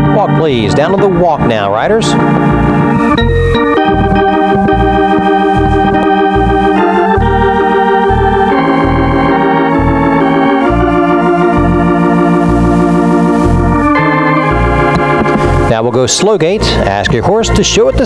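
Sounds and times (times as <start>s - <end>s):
organ chords: 0.0s - 18.0s
walking bass line: 0.0s - 18.0s.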